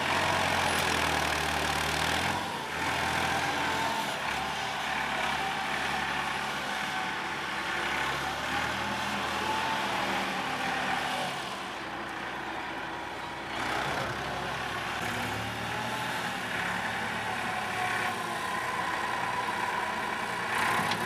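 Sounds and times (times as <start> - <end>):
motor grader diesel engine: 0.0 - 21.0.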